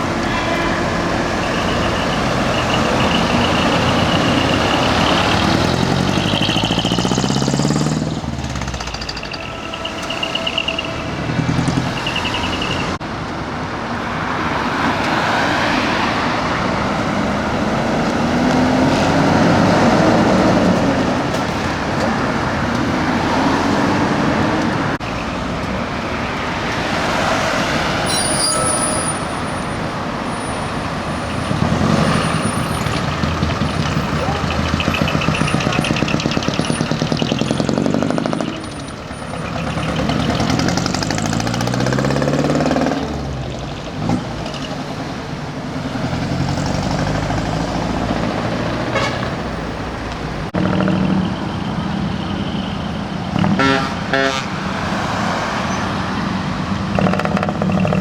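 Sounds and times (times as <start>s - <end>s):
diesel engines changing gear: 0.0s - 58.0s
heavy trucks driving past: 0.0s - 58.0s.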